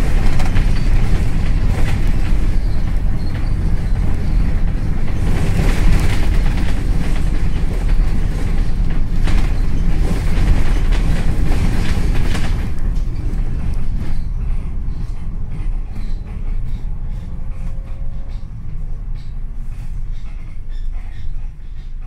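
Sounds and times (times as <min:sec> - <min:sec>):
rattling and clattering: 0:00.0 - 0:20.6
bus engine and road rumble: 0:00.0 - 0:22.0.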